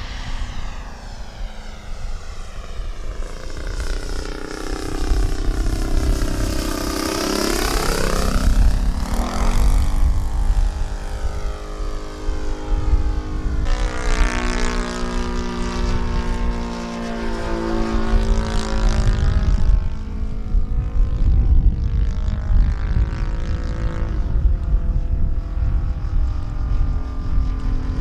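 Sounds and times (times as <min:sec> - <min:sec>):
model plane engine in flight: 0:00.0 - 0:28.0
wind rumbling on microphone: 0:00.0 - 0:28.0.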